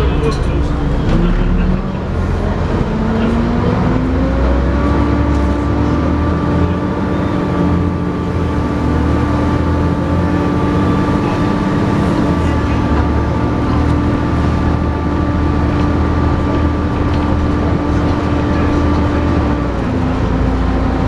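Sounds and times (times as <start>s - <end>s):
bus diesel engine pulling hard: 0.0s - 21.0s.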